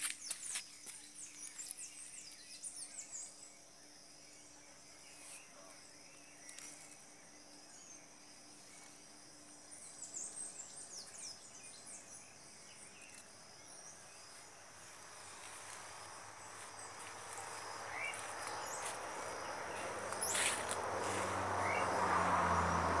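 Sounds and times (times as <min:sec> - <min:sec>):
insects buzzing: 0:00.0 - 0:23.0
bird chirps: 0:00.1 - 0:15.8, 0:16.4 - 0:22.0.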